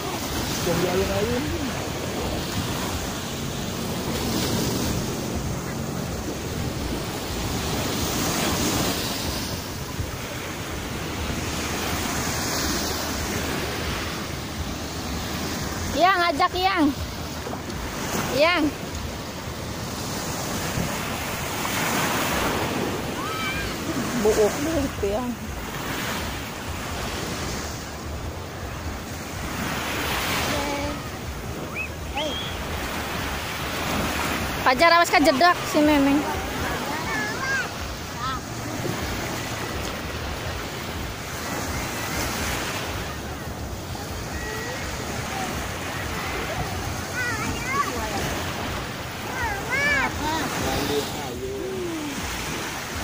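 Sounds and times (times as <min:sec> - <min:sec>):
small waves breaking on beach: 0:00.0 - 0:53.0.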